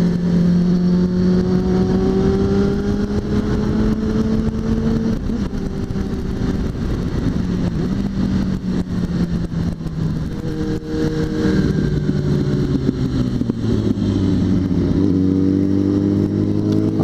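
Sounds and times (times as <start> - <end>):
motorcycle engine running: 0.0 - 17.0
road noise: 0.0 - 17.0
wind rush: 0.0 - 17.0.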